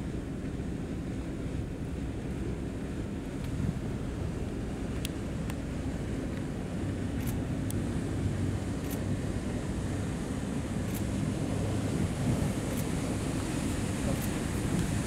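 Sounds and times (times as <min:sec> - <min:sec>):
boat engine drone: 0:00.0 - 0:15.0
rushing water: 0:00.0 - 0:15.0.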